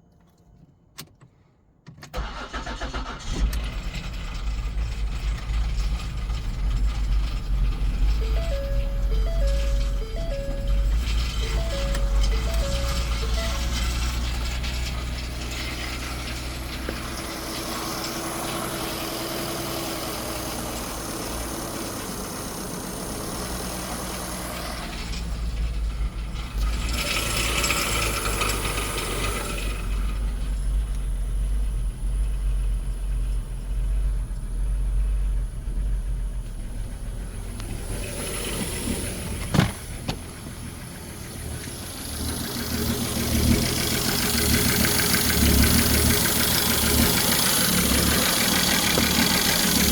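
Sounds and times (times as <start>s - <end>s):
engine running with knocking: 4.1s - 49.9s.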